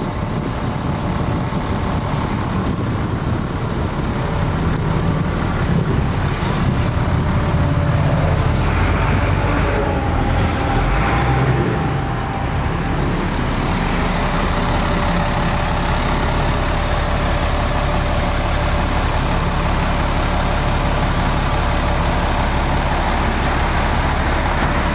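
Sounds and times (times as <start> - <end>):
truck engine running: 0.0 - 24.9.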